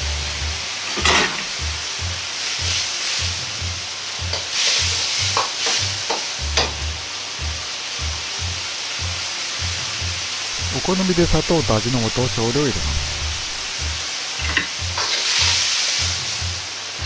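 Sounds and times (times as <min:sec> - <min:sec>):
sizzling hiss: 0:00.0 - 0:17.0.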